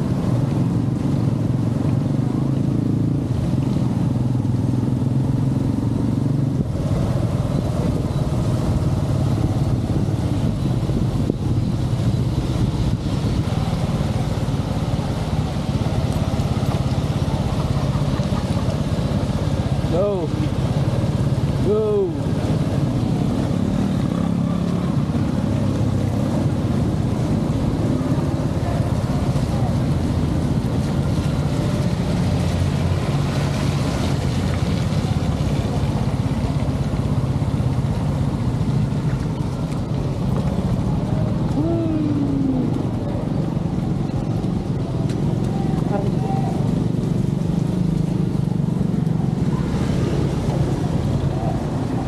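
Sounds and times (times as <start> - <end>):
rain on wet road: 0.0 - 52.0
wind buffeting microphone: 0.0 - 52.0.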